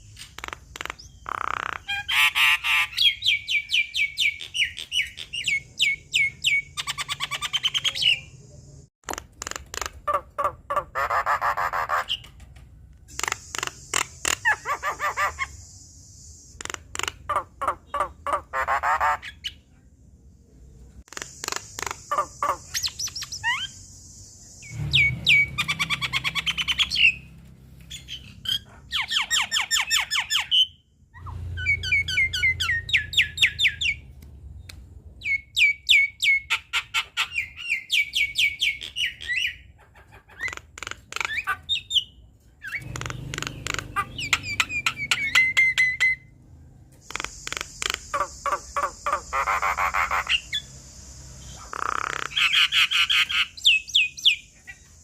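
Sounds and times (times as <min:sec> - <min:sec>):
bird singing chattering song: 0:00.0 - 0:12.4, 0:13.1 - 0:19.7, 0:21.0 - 0:46.4, 0:47.0 - 0:55.0.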